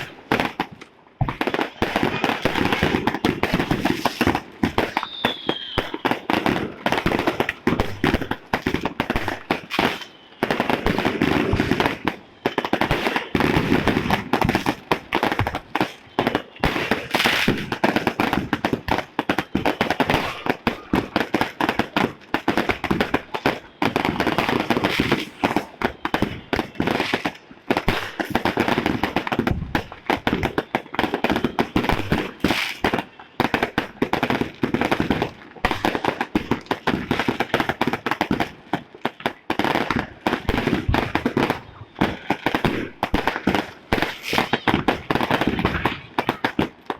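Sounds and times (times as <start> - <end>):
fireworks and firecrackers banging: 0.0 - 46.9.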